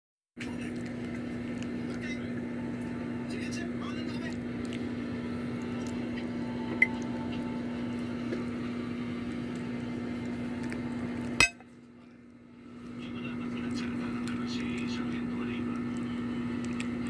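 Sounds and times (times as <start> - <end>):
steady low hum: 0.4 - 17.0.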